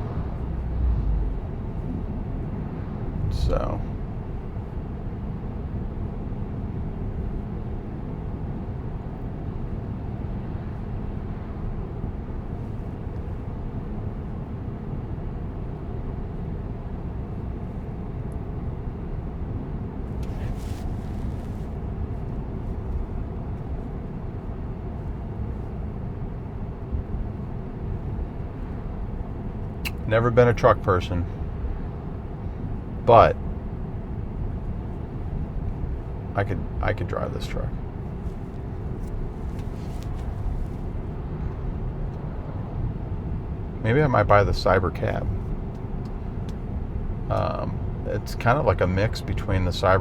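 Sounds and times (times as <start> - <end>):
road and tyre noise: 0.0 - 50.0.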